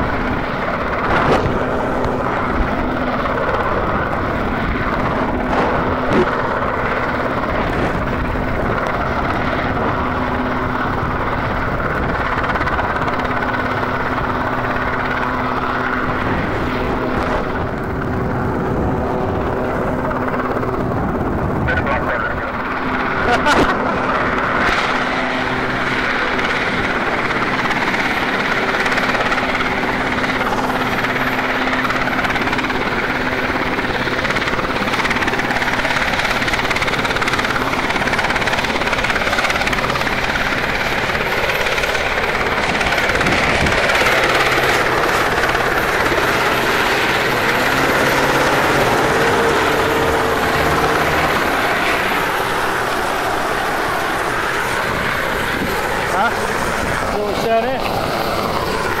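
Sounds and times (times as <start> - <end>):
boat engine drone: 0.0 - 59.0
helicopter rotors overhead: 0.0 - 59.0
wind and water rush: 0.0 - 59.0.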